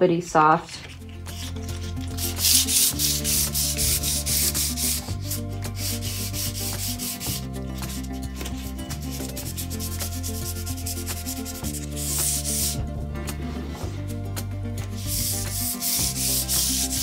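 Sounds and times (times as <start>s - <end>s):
sandpaper rubbing on wood: 0.8s - 12.8s, 14.8s - 17.0s
background music with bass: 0.8s - 17.0s.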